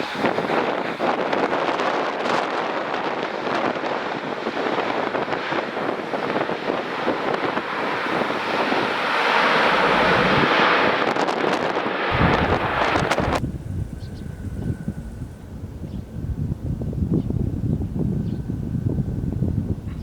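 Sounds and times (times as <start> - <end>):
jet engines running: 0.0 - 19.8
wind buffeting microphone: 0.0 - 20.0.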